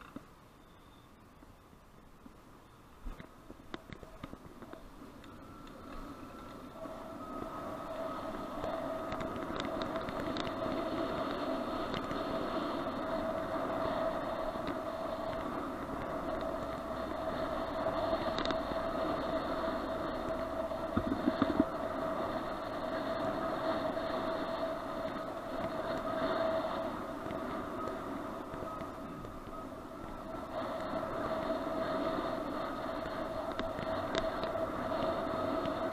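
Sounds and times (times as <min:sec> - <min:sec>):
constant whining tone: 0:00.0 - 0:35.9
bicycle tyres rolling: 0:01.9 - 0:35.9
wind noise: 0:02.2 - 0:35.9.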